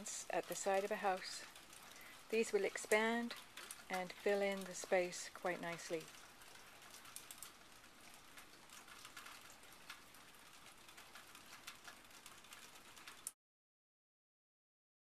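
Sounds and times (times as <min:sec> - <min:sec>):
faint outdoor background hiss: 0:00.0 - 0:13.2.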